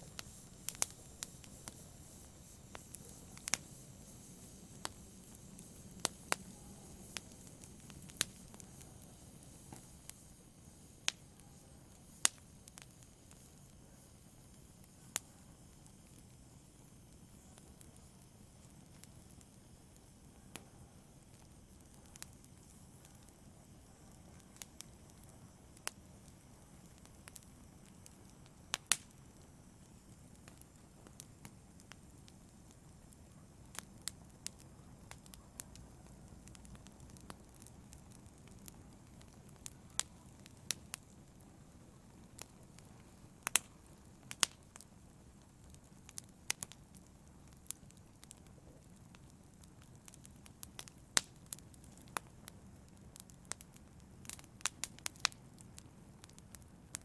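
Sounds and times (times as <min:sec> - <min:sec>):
fire crackles and pops: 0:00.0 - 0:57.0
wood fire hissing: 0:00.0 - 0:57.0.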